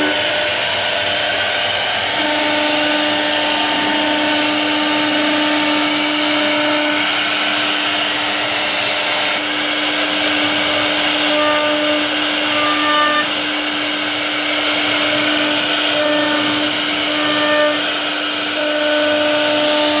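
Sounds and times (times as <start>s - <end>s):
router spindle whine: 0.0s - 20.0s.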